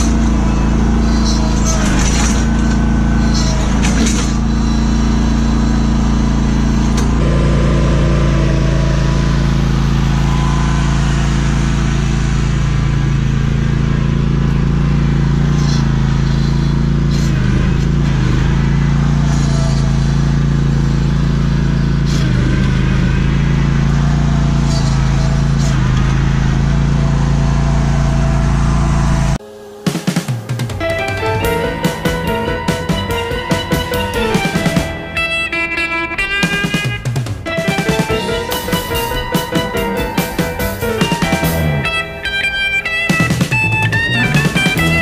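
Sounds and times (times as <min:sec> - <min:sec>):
lawn mower engine running: 0:00.0 - 0:45.0.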